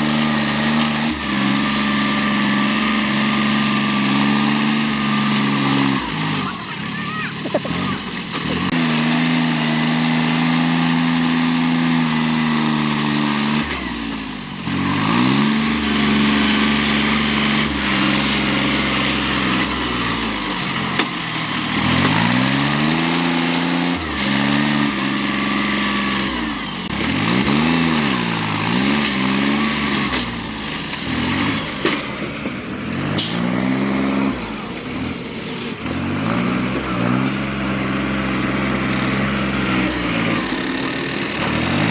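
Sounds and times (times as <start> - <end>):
engine revving: 0.0 - 41.9.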